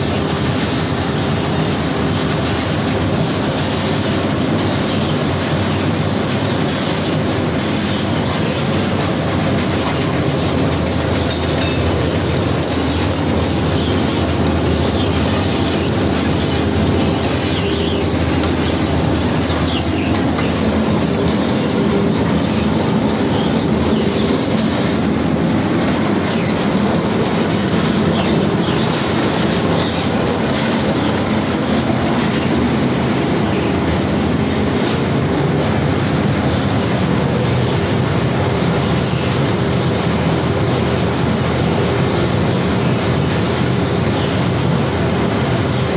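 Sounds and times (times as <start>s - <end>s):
low machine hum: 0.0s - 45.9s
mill machinery rattling: 0.0s - 45.9s.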